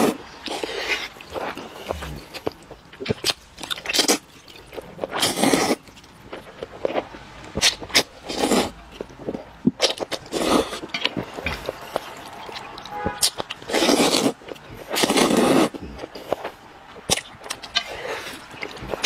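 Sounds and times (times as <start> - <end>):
biting and chewing: 0.0 - 19.0.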